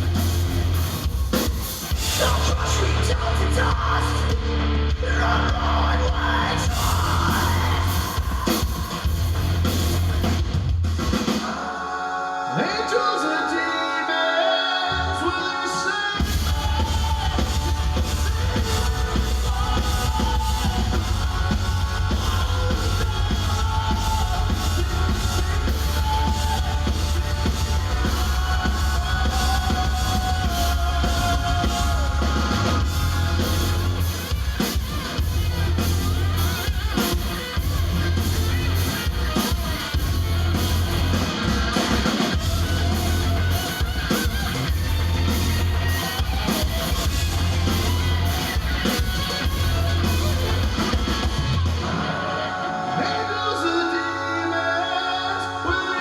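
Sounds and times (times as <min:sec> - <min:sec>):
heavy drums: 0:00.0 - 0:13.0, 0:16.0 - 0:53.6
distorted guitars: 0:00.0 - 0:56.0
person singing: 0:01.9 - 0:09.2, 0:11.3 - 0:56.0.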